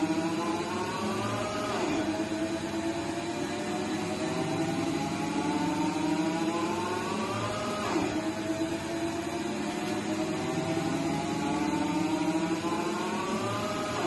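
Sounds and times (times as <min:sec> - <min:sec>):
lathe drive whine: 0:00.0 - 0:14.0
steady machine hum: 0:00.0 - 0:14.0.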